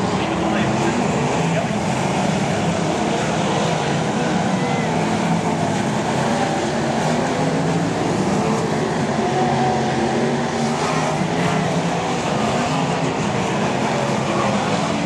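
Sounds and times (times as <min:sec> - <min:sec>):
racing car engines: 0:00.0 - 0:15.0.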